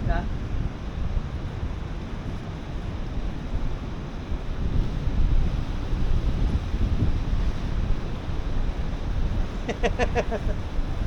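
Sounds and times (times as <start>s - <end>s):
rough surf rushing: 0.0s - 11.0s
wind buffeting microphone: 0.0s - 11.0s.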